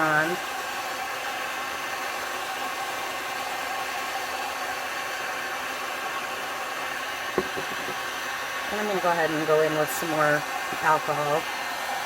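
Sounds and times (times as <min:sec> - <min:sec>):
faint motor hum: 0:00.0 - 0:12.0
heat gun blowing air: 0:00.0 - 0:12.0.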